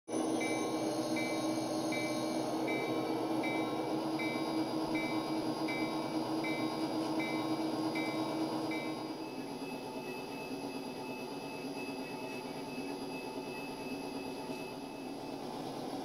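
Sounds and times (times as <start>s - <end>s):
locomotive bell ringing: 0.1s - 15.5s
diesel locomotive engine through speaker: 0.1s - 16.0s.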